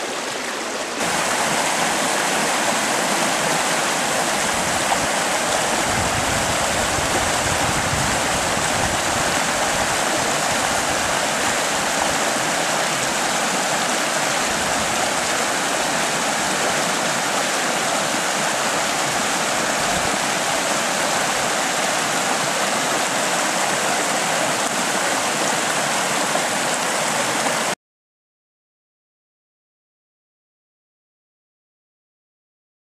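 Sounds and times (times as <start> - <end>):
floodwater rushing: 0.0 - 27.8.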